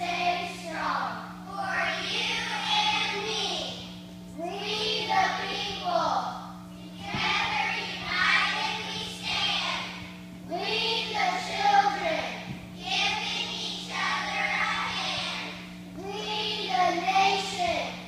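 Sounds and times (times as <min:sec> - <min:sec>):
children singing together: 0:00.0 - 0:03.7, 0:04.4 - 0:06.2, 0:06.8 - 0:18.0
low electrical hum: 0:00.0 - 0:18.0.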